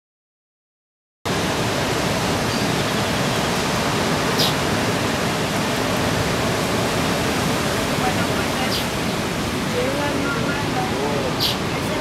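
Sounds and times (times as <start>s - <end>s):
ocean surf roaring: 1.3s - 12.0s.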